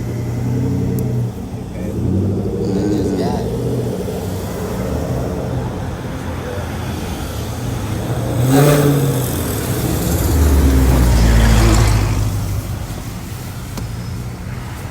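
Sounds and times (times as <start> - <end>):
car engine revving and passing: 0.0 - 14.9.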